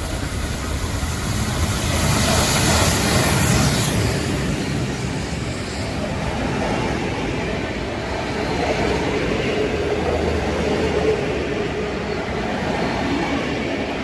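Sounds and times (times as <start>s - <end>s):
train rumbling on tracks: 0.0s - 14.0s.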